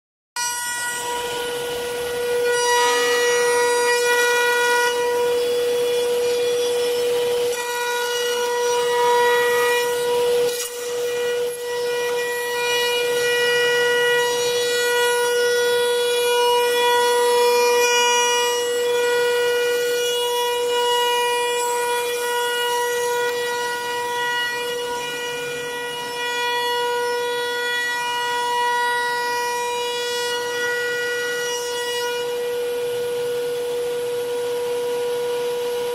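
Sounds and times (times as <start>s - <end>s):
bit cutting wood: 0.4s - 35.9s
spindle high-pitched whine: 0.4s - 35.9s.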